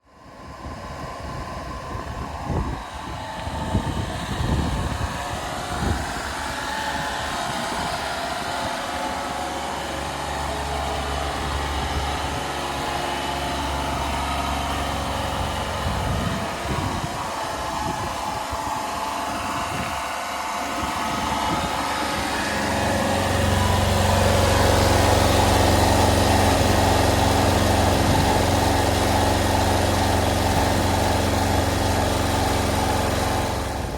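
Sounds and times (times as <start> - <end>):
truck engine idling: 0.9 - 33.9
engine knocks: 2.9 - 33.9.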